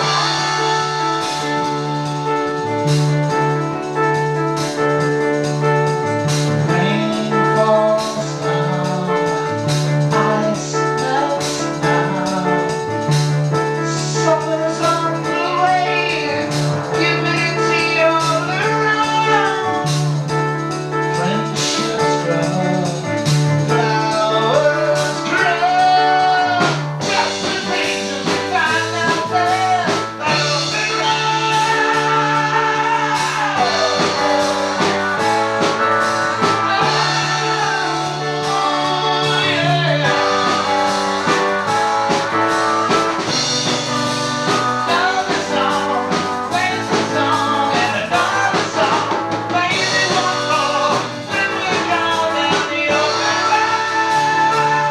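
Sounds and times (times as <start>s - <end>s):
band playing a song: 0.0s - 54.9s
person singing: 0.0s - 54.9s.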